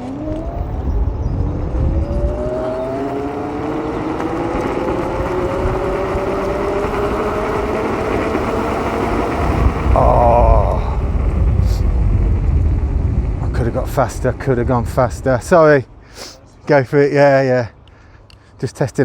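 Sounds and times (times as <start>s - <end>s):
electric motor whining: 0.0s - 15.3s
low rumble: 0.0s - 16.0s.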